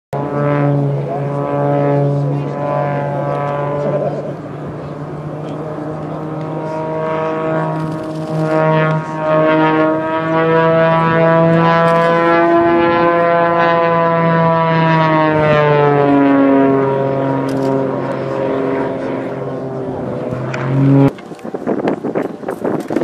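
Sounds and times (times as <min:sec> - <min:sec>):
propeller airplane droning overhead: 0:00.2 - 0:23.0.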